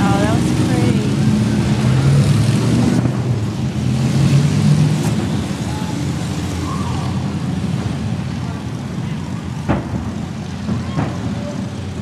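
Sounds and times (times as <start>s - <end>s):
vehicle engine hum passing: 0.0s - 12.0s.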